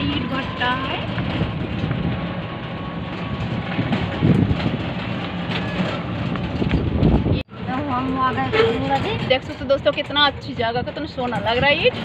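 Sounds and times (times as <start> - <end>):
three-wheeler engine running: 0.0 - 12.0
vehicle body rattling: 0.0 - 12.0
vehicle jolt: 0.0 - 12.0.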